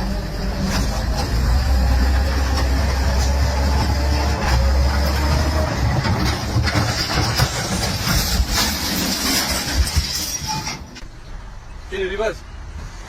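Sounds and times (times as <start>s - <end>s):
vehicle engine rumble: 0.0s - 13.0s
rattling and clattering: 0.6s - 11.0s.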